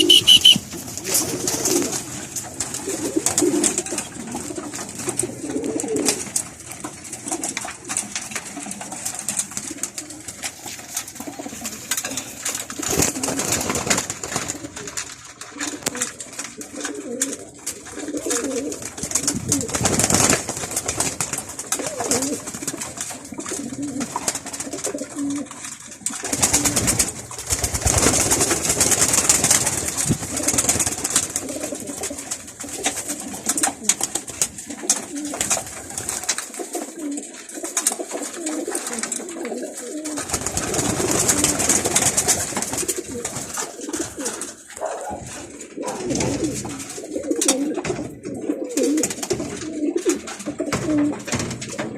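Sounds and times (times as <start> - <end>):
rustling noise: 0.0 - 48.2
pigeons cooing: 0.0 - 51.9.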